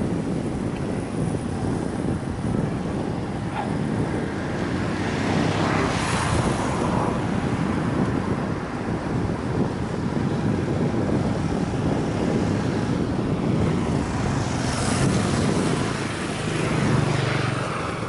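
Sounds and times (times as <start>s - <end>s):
passing vehicle: 0.0s - 18.0s
wind buffeting microphone: 0.0s - 18.0s.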